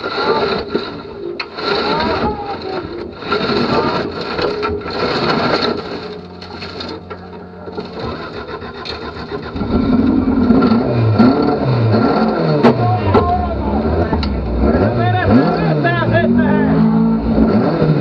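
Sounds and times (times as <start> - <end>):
car engine idling: 0.0 - 18.0
engine revving: 0.0 - 18.0.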